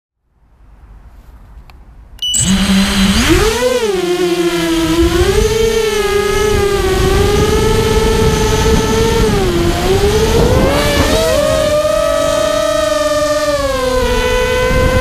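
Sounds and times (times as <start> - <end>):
drone motors whining: 2.2 - 15.0
wind rush from propellers: 2.4 - 15.0.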